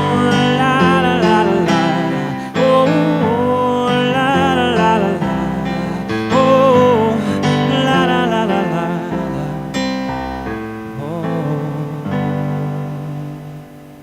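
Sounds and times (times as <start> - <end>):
piano chords: 0.0 - 14.0
singer holding wordless notes: 0.0 - 14.0.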